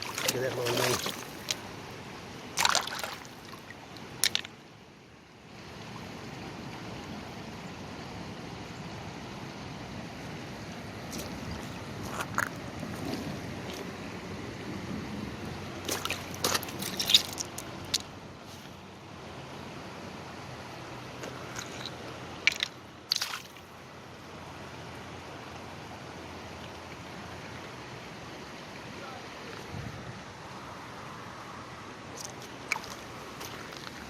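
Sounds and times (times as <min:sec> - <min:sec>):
flooded river rushing: 0:00.0 - 0:04.5, 0:09.2 - 0:34.0.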